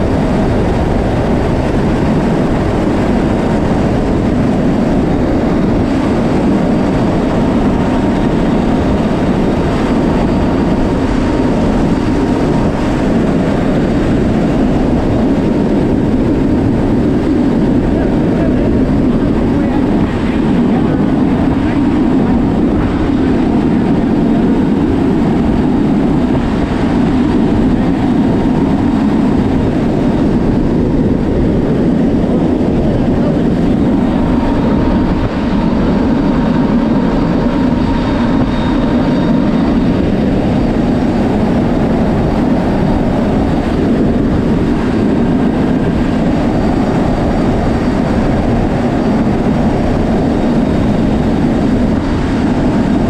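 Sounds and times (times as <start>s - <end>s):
faint steady engine tone: 0.0s - 53.0s
loud roar of wind: 0.0s - 53.0s
turboprop engines roaring: 0.0s - 53.0s.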